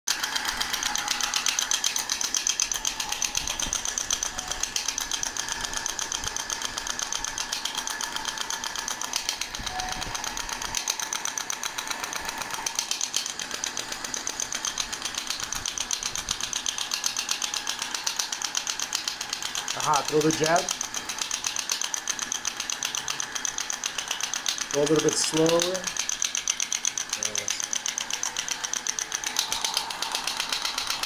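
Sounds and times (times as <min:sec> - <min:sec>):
therapy handpiece rapid clicks: 0:00.1 - 0:31.0.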